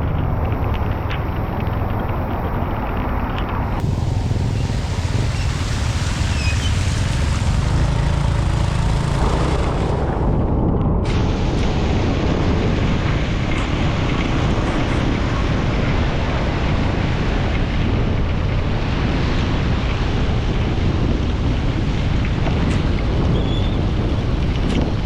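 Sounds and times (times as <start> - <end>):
vehicle driving through floodwater: 0.0 - 24.5.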